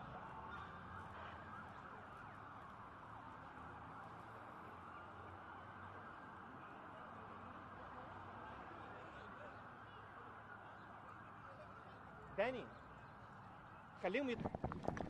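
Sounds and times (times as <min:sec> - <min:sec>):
police sirens wailing: 0:00.0 - 0:12.2
street noise: 0:00.0 - 0:15.0.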